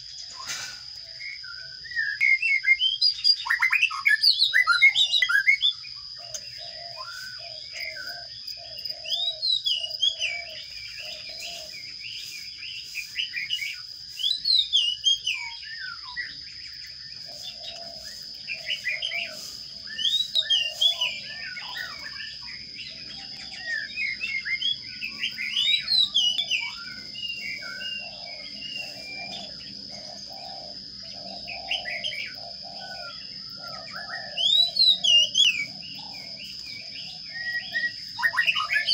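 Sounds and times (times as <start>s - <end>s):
sparrows chirping: 0.0s - 38.9s
steady high-pitched whine: 4.6s - 38.9s.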